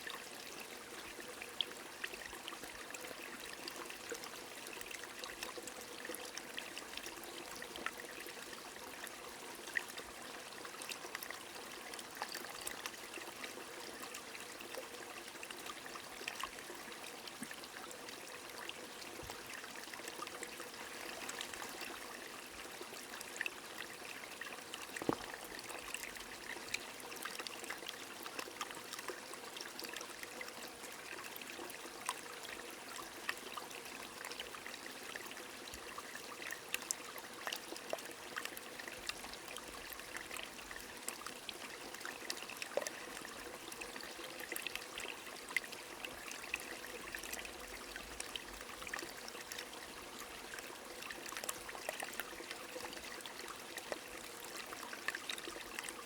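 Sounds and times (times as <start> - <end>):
trickling stream water: 0.0 - 56.0.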